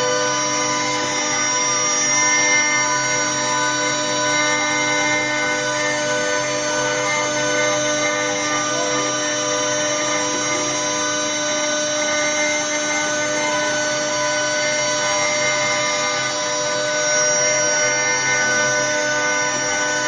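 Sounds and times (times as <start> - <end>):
router whining: 0.0 - 20.0.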